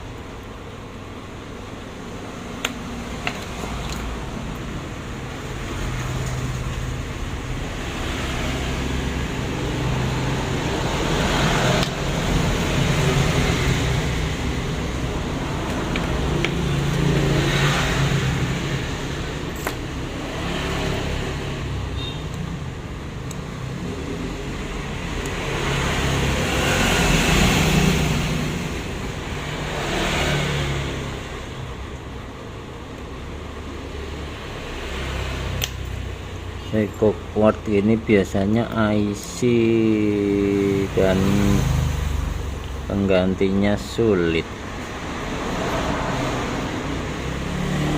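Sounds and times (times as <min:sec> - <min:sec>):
vehicles passing by: 0:00.0 - 0:47.9.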